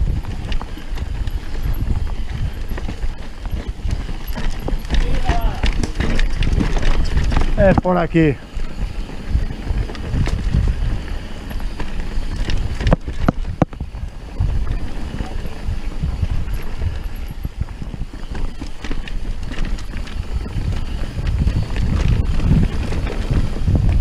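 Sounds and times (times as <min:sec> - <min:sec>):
bike rattling and clicking: 0:00.0 - 0:24.0
wind buffeting microphone: 0:00.0 - 0:24.0.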